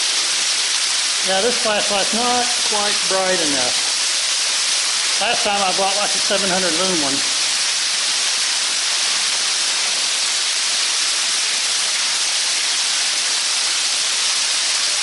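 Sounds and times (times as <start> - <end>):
waterfall rushing in cave: 0.0 - 15.0.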